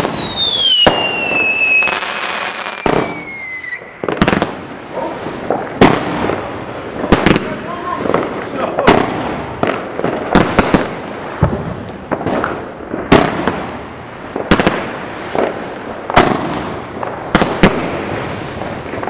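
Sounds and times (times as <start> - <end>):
constant hiss: 0.0 - 19.0
fireworks bangs: 0.0 - 19.0.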